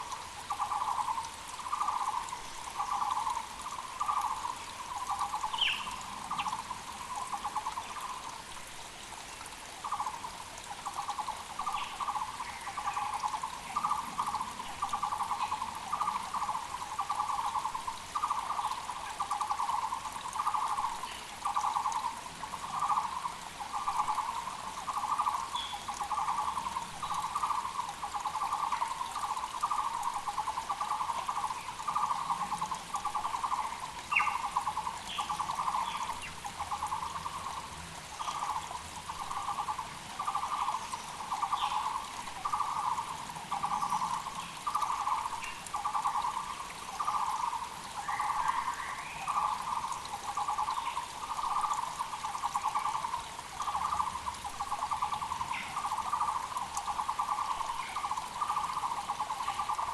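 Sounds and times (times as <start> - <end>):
faint creek running: 0.0 - 59.9.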